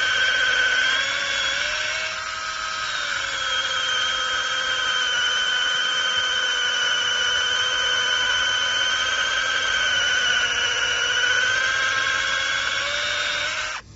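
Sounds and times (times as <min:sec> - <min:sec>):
mini chainsaw motor whine: 0:00.0 - 0:13.9.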